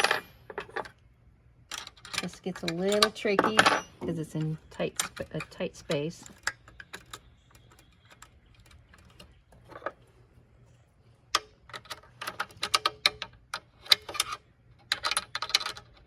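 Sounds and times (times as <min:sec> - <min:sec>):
metal hardware clicking and rattling: 0:00.0 - 0:01.0, 0:01.7 - 0:10.1, 0:11.3 - 0:16.0.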